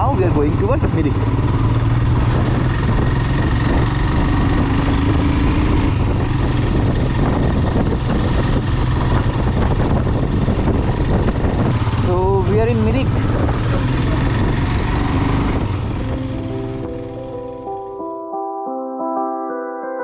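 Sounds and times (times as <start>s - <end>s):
motorcycle engine running: 0.0s - 17.7s
road and wind noise: 0.0s - 18.0s.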